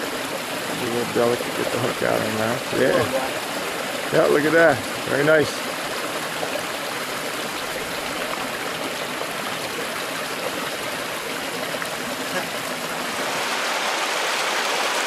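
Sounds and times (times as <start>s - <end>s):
stream running over small waterfall: 0.0s - 15.0s.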